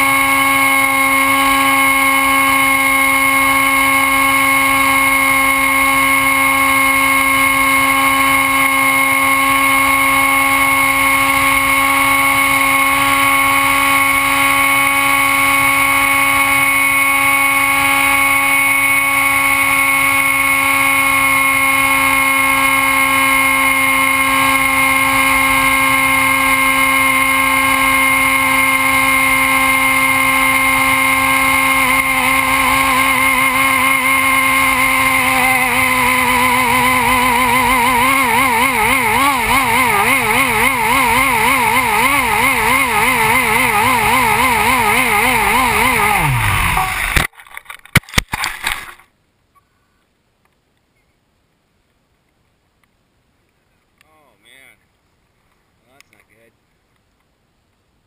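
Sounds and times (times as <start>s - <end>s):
model aircraft motor whine: 0.0s - 47.3s.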